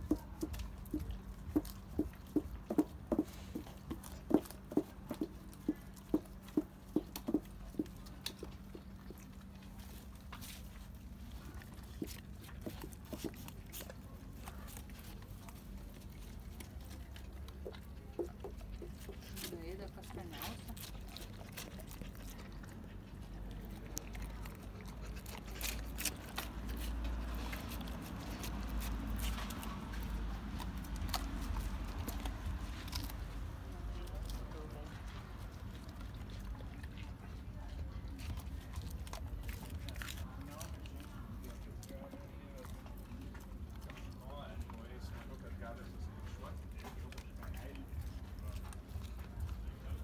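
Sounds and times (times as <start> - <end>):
dog chewing food: 0.0 - 50.0.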